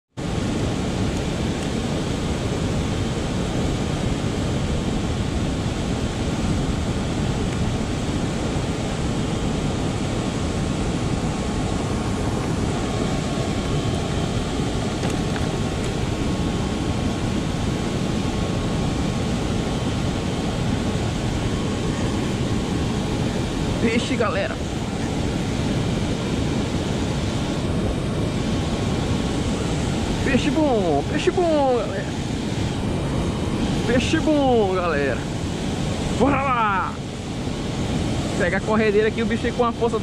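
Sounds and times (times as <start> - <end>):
rushing river water: 0.2 - 40.0.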